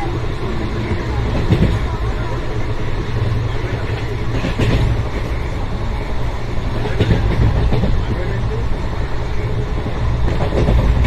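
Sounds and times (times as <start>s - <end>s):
train clatter: 0.0s - 11.0s
train wheels rumbling on track: 0.0s - 11.0s.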